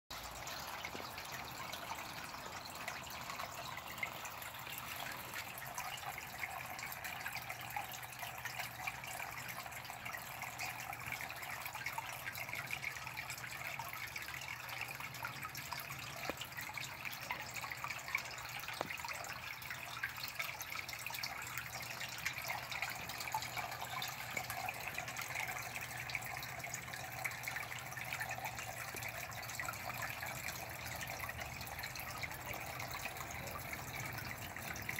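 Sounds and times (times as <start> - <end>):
water trickling into a pond: 0.1 - 34.9.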